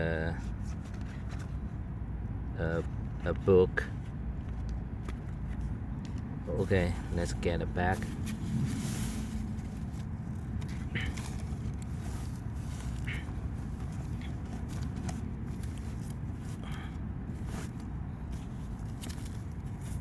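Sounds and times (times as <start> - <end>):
items rustling being handled: 0.0 - 1.9, 2.6 - 20.0
low background rumble: 0.0 - 20.0.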